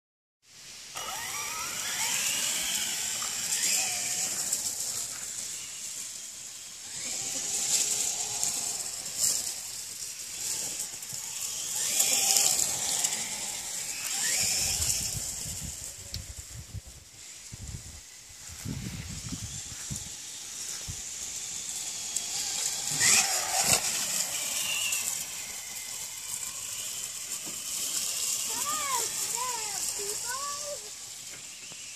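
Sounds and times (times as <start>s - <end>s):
toy car motor whining: 0.9s - 31.9s.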